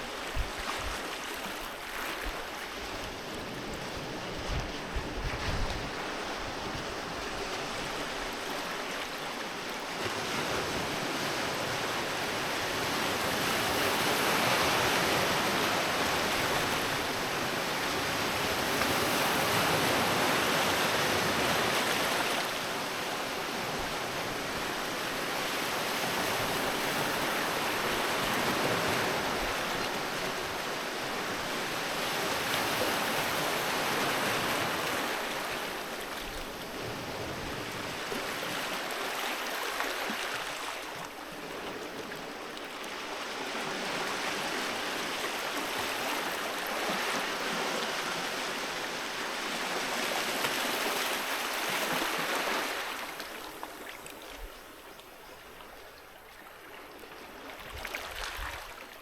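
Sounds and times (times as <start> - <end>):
sea waves washing onto beach: 0.0 - 54.4.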